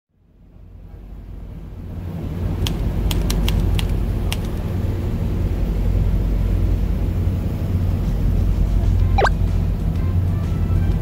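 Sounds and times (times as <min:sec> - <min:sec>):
ferry engines rumbling: 0:00.5 - 0:11.0.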